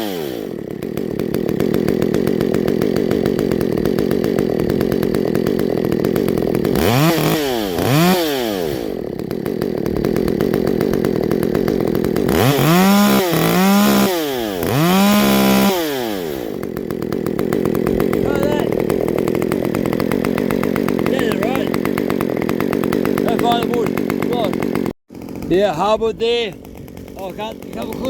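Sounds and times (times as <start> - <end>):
chainsaw idling and revving: 0.0 - 28.0.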